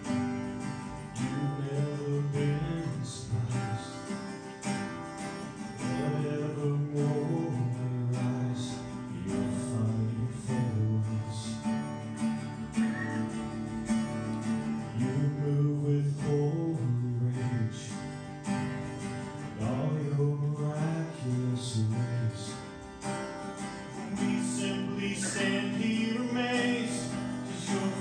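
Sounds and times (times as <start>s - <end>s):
man singing: 0.0s - 4.4s, 5.6s - 12.2s, 14.5s - 18.5s, 19.2s - 23.1s, 23.8s - 28.0s
acoustic guitar strumming: 0.0s - 28.0s.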